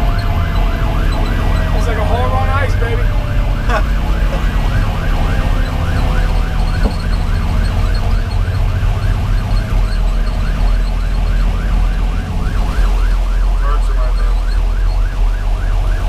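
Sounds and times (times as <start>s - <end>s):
diesel truck engine drone: 0.0s - 16.0s
siren yelping: 0.0s - 16.0s.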